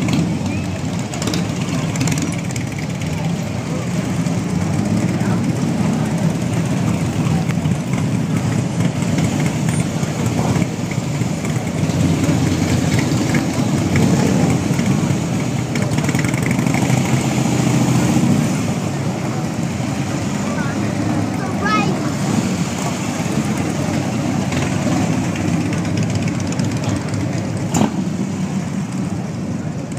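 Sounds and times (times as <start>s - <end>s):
motorcycles riding past: 0.0s - 29.9s.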